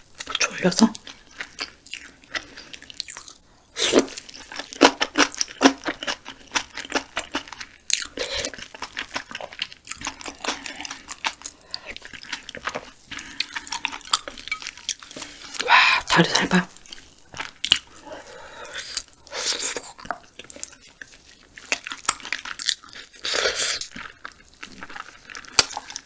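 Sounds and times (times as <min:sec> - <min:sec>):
chewing and crunching: 0:00.2 - 0:26.0.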